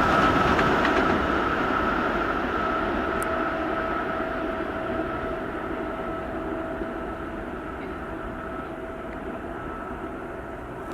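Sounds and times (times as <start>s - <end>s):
electric train running past: 0.0s - 10.9s.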